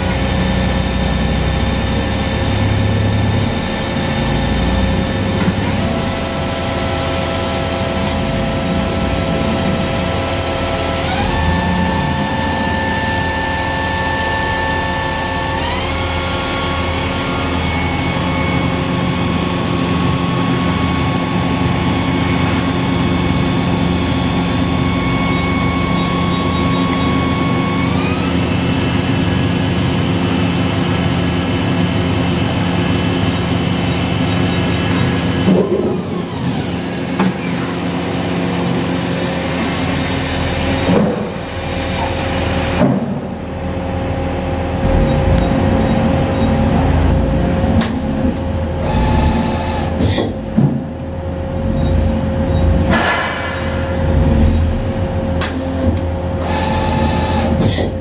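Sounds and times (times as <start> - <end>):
machine spindle whine: 0.0 - 58.0.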